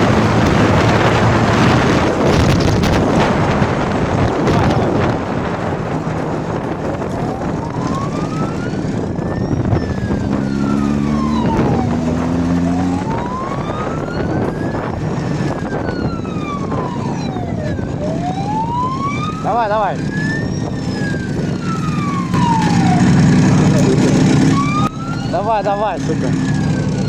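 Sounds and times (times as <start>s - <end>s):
police siren wailing: 0.0s - 27.0s
steady rushing noise: 0.0s - 27.0s.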